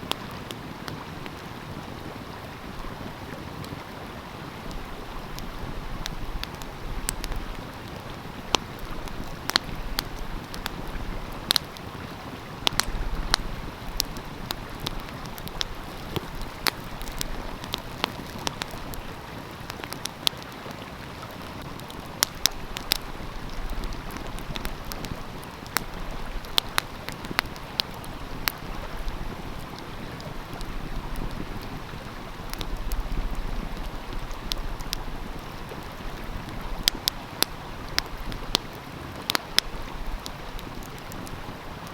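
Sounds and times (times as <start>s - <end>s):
stream flowing: 0.0s - 41.9s
wood fire crackling: 0.0s - 41.9s.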